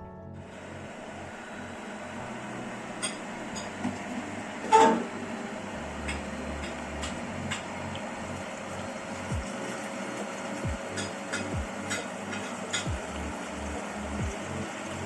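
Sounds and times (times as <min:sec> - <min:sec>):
washing machine rushing noise: 0:00.4 - 0:15.0.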